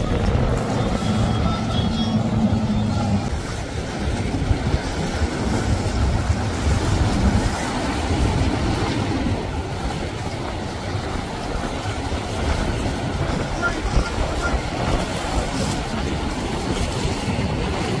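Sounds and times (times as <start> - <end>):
boat engines rumbling: 0.0 - 18.0
water wash: 0.0 - 18.0.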